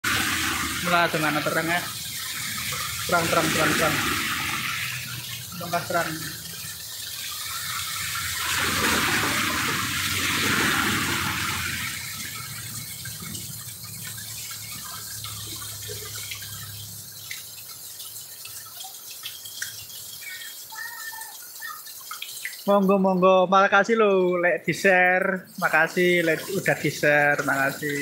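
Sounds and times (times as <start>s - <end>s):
heavy rain on street and roofs: 0.0s - 23.2s, 24.2s - 28.0s.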